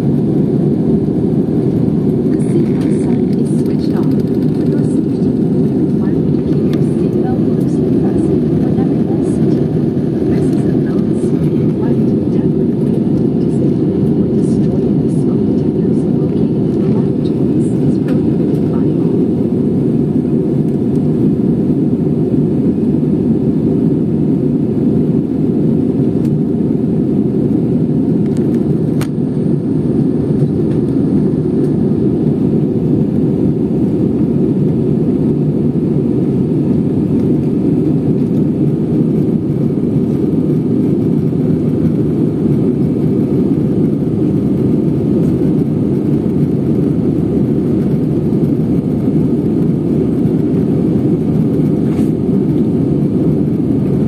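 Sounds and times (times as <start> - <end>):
jet engines roaring in cabin: 0.0 - 54.0.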